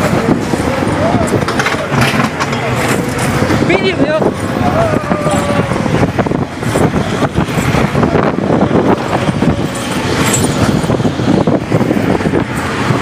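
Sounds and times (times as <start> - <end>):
roller coaster rumbling and rattling: 0.0 - 13.0.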